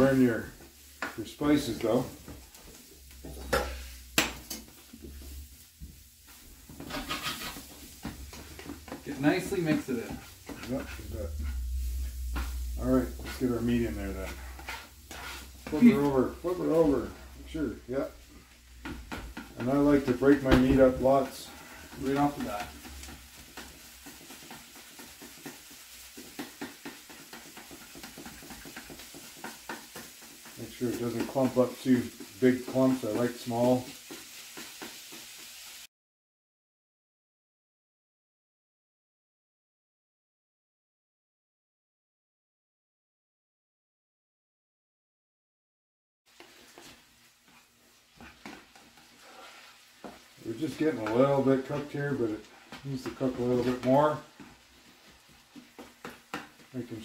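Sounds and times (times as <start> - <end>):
spatula scraping frying pan: 0.0 - 35.8, 46.3 - 57.0
faint sizzle: 0.0 - 35.9, 46.3 - 57.0.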